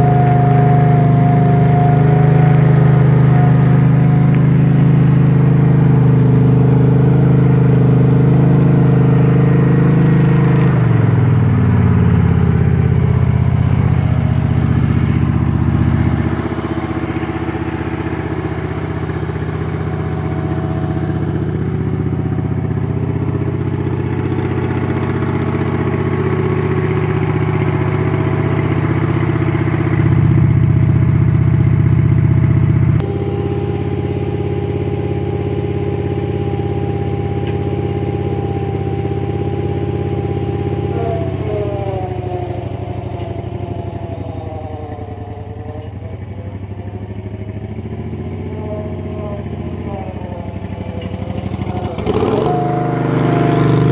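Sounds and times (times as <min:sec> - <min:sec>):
road roller engine running: 0:00.0 - 0:53.9.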